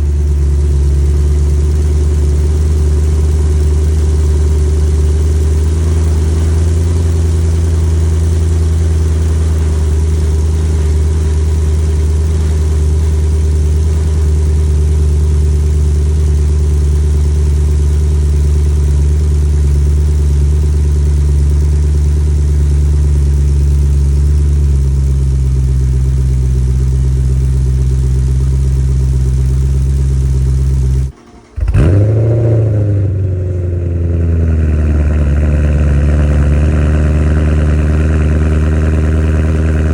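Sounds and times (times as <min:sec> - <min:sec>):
car engine idling: 0:00.0 - 0:39.9
engine revving: 0:00.0 - 0:39.9.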